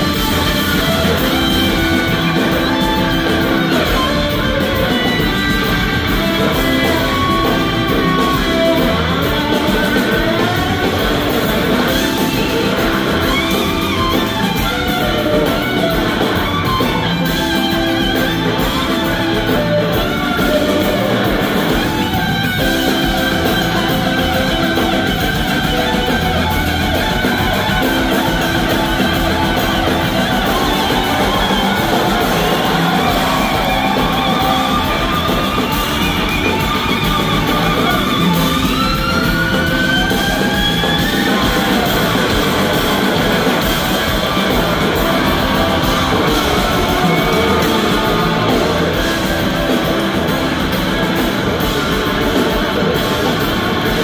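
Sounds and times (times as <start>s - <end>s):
bass guitar: 0.0s - 54.0s
drums: 0.0s - 54.0s
electric guitar solo: 0.0s - 54.0s.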